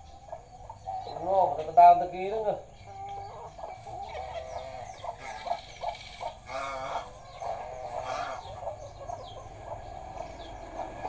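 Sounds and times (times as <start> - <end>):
chickens clucking: 0.0 - 11.0
chicks peeping: 0.0 - 11.0.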